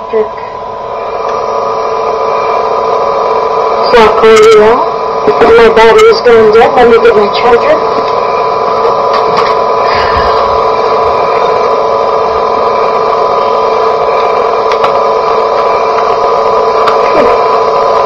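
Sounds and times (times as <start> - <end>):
cassette tape noise: 0.0 - 18.0
constant tone: 0.0 - 18.0.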